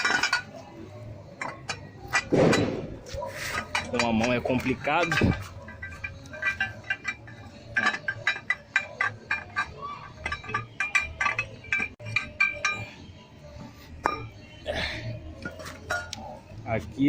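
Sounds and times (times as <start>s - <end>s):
metallic clinks and knocks: 0.0s - 13.0s, 15.4s - 16.5s.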